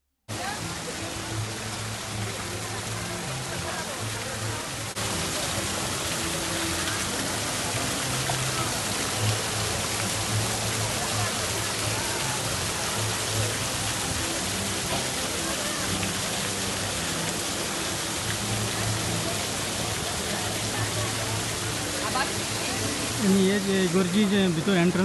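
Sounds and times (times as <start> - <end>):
fountain water splashing into basin: 0.3 - 25.0.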